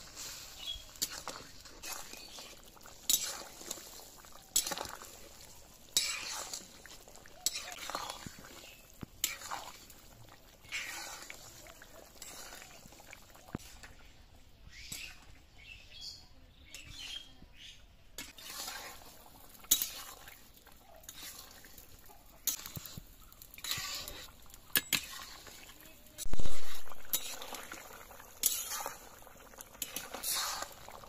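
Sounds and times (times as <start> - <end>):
metal spatula scraping a pan: 0.0 - 14.0, 18.2 - 31.0.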